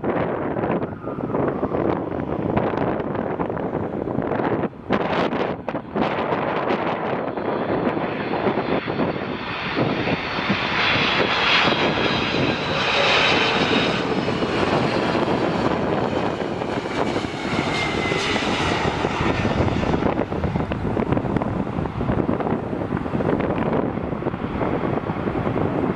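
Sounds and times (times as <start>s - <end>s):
jet airliner passing: 0.0s - 25.9s
wind buffeting microphone: 0.0s - 25.9s.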